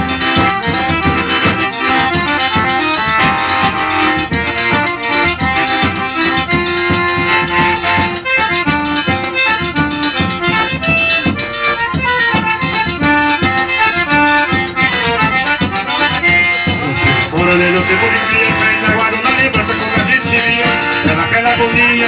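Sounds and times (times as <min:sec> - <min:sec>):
accordion melody: 0:00.0 - 0:22.0
percussion beat: 0:00.0 - 0:22.0.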